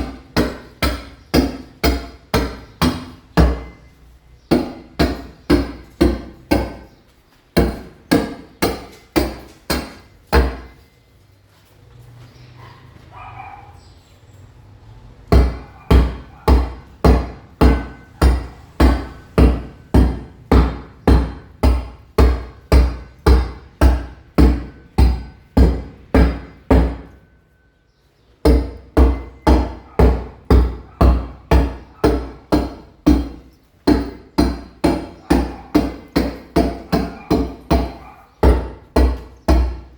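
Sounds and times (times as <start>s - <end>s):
hammer striking chisel on masonry: 0.0s - 10.9s, 15.3s - 27.4s, 28.4s - 39.9s.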